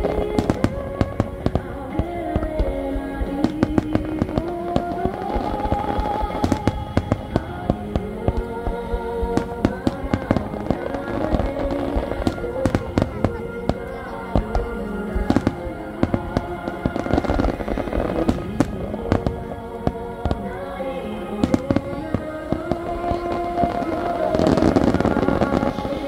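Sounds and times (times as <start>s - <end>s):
fireworks bursting: 0.0s - 26.0s
music with sustained notes: 0.0s - 26.0s.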